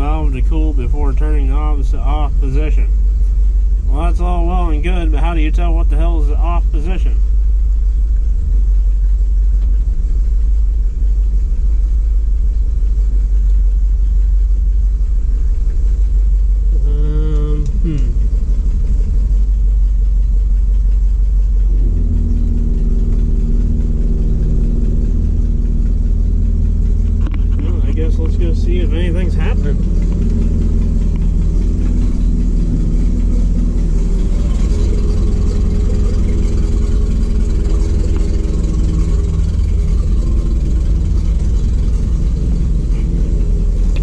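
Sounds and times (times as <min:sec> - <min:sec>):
truck engine running: 0:00.0 - 0:44.0.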